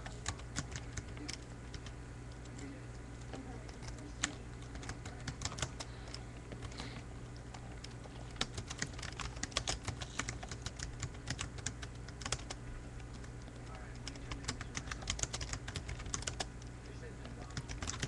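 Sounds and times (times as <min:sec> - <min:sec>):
computer keyboard typing: 0:00.0 - 0:18.0
steady low hum: 0:00.0 - 0:18.0.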